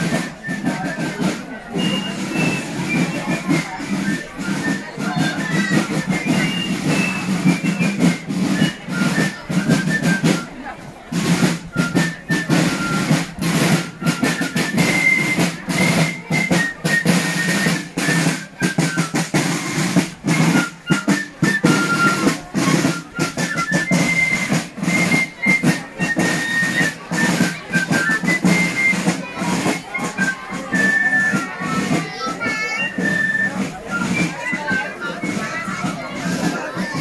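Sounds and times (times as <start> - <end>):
bass and snare drumbeats: 0.0 - 37.0
high flute melody: 0.0 - 37.0
marching band playing: 0.0 - 37.0.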